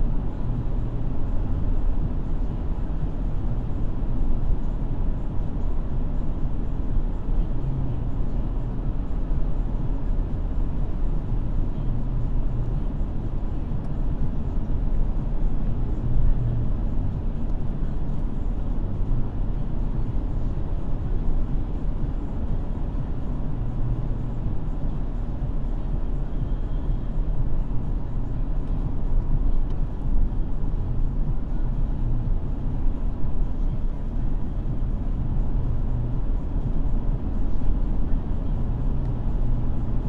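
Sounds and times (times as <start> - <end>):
car engine rumble: 0.0 - 40.0.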